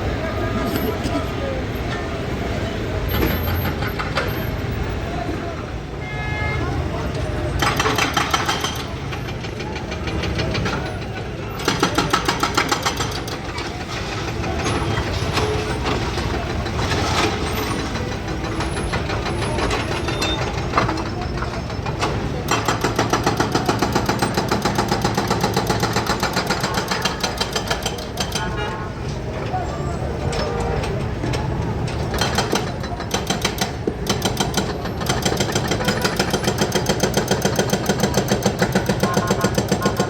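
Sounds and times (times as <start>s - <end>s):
people's voices: 0.0s - 40.0s
vehicle engines throbbing: 6.6s - 40.0s.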